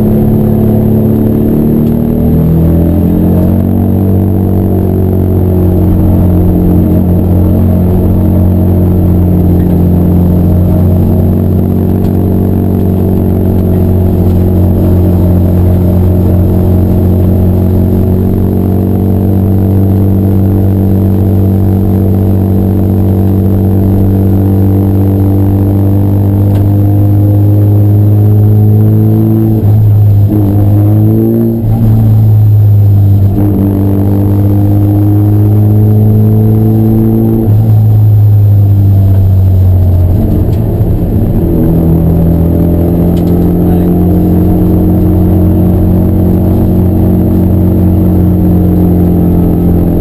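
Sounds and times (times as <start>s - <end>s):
car engine running: 0.0s - 50.0s.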